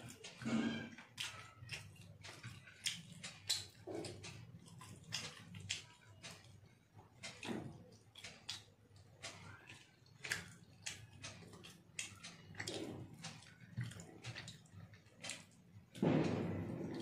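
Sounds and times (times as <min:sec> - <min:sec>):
fingers squishing food on plate: 0:00.0 - 0:17.0
wet chewing and lip-smacking: 0:00.0 - 0:17.0.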